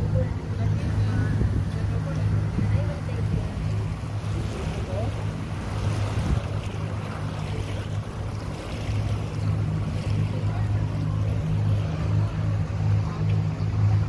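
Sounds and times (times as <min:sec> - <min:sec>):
boat engine droning: 0:00.0 - 0:14.0
water noise: 0:00.0 - 0:14.0.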